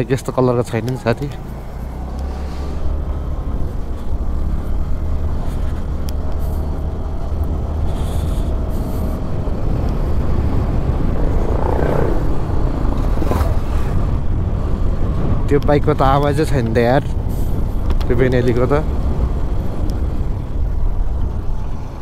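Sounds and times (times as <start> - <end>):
wind and road rumble: 0.0 - 22.0.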